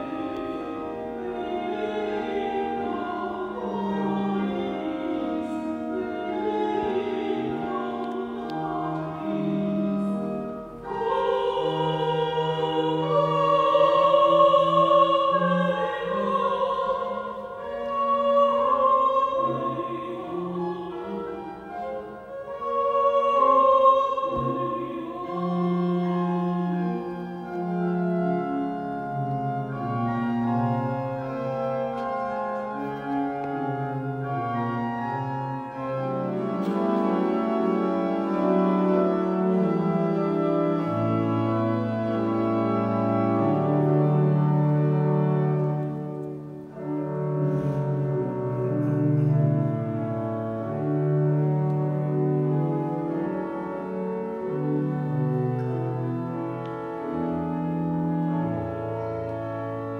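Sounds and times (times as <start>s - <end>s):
choral singing long notes: 0.0s - 59.9s
organ chords: 0.0s - 59.9s.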